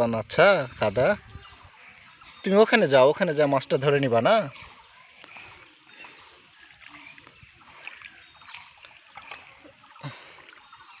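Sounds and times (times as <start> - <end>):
splashing of shallow water: 0.0 - 11.0
ticks and drips: 0.0 - 11.0.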